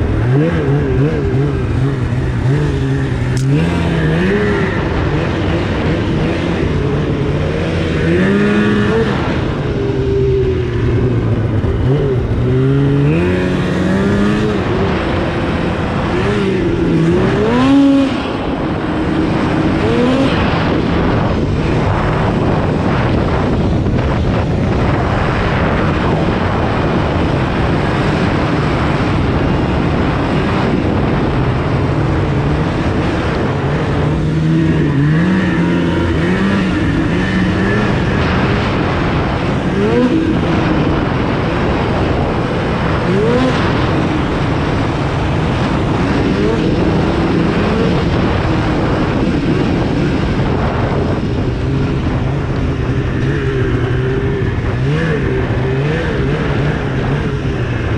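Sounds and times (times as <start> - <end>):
snowmobile engine revving: 0.0 - 57.9.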